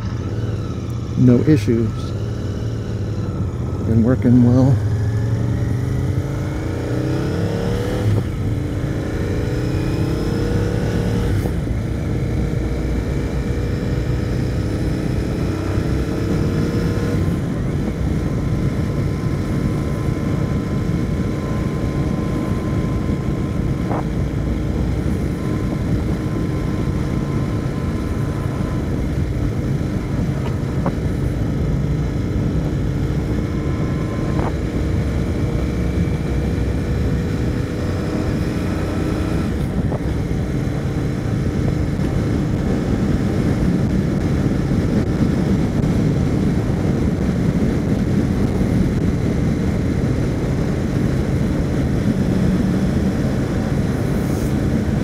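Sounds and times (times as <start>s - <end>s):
motorcycle engine accelerating: 0.0s - 55.0s
wind noise: 4.8s - 55.0s.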